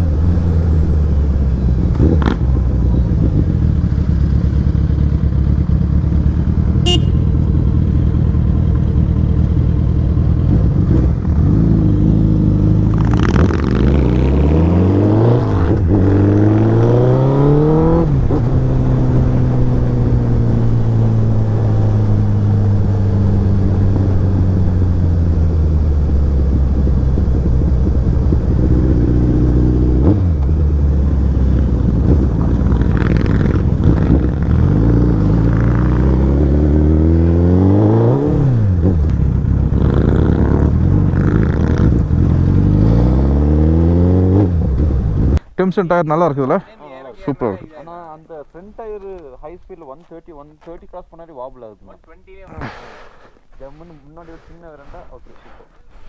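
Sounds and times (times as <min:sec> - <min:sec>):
motorcycle engine revving: 0:00.0 - 0:45.4.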